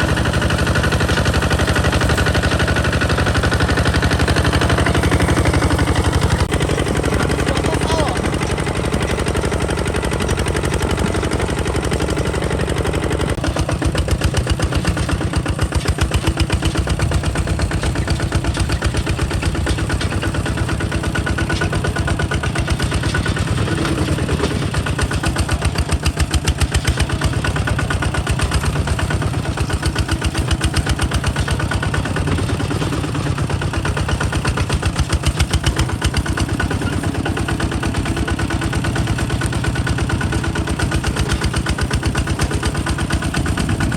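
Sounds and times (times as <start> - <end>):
diesel engine chugging: 0.0 - 43.9.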